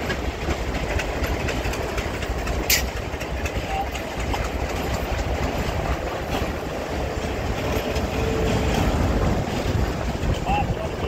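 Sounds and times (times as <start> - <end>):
locomotive engine rumble: 0.0 - 11.0
train wheels on rails: 0.0 - 11.0.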